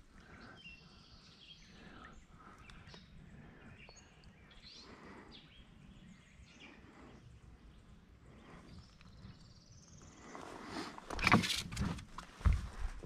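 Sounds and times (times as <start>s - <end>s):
faint bird chirps: 0.0s - 10.9s.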